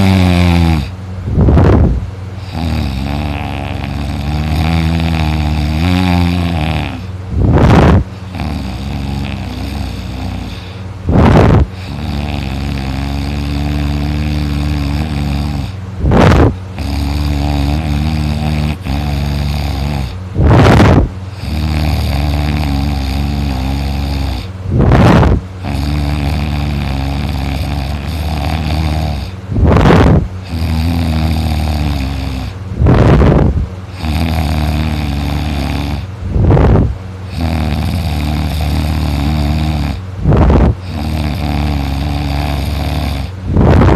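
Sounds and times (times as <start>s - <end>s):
man snoring loudly: 0.0s - 1.8s, 2.4s - 43.9s.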